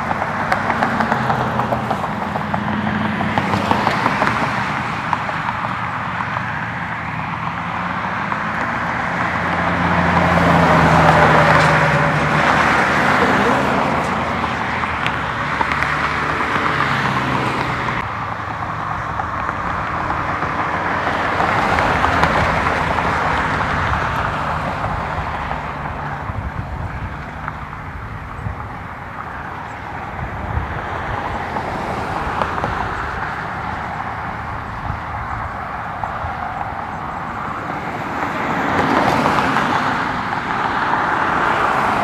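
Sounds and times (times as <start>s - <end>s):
vehicle rushing noise: 0.0s - 42.0s.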